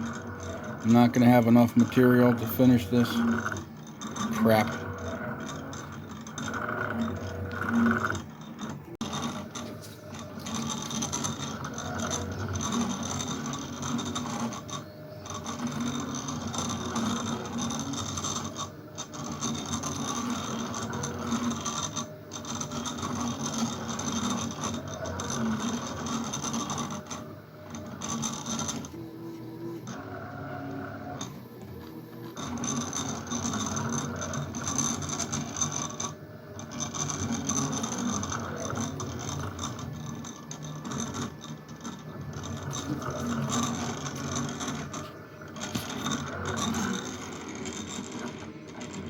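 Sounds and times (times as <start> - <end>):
cnc machine axes whining: 0.0 - 49.0.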